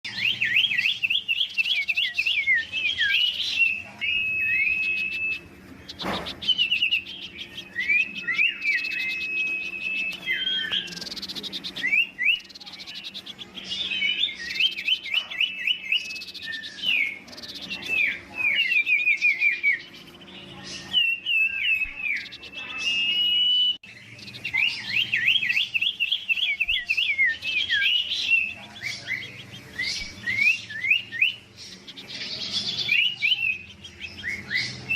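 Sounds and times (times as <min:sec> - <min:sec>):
songbird whistling: 0:00.0 - 0:34.9.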